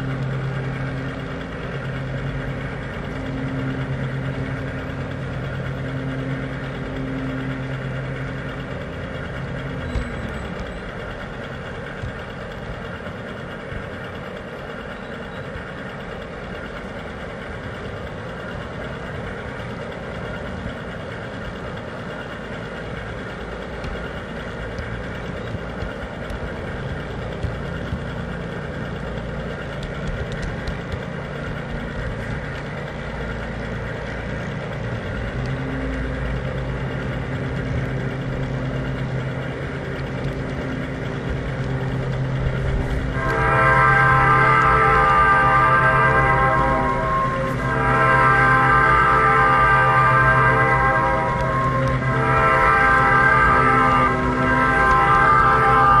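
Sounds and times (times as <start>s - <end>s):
low drone: 0.0s - 56.0s
model train rumbling: 0.0s - 56.0s.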